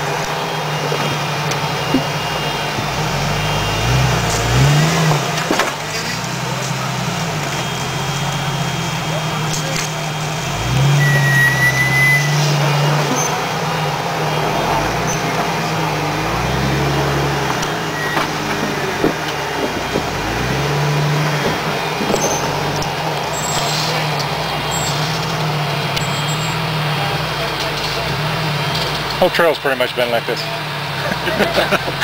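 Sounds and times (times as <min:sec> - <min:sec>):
engine revving: 0:00.0 - 0:32.0.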